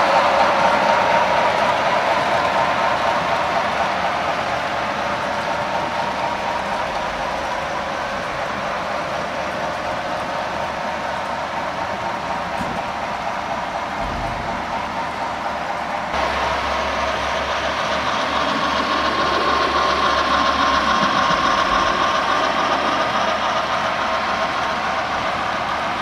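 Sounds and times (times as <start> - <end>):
model trains rolling on track: 0.0 - 26.0.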